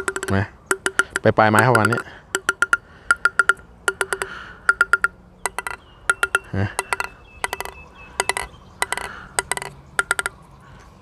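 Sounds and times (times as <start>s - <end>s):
ping pong ball tapping on paddle: 0.0s - 10.4s.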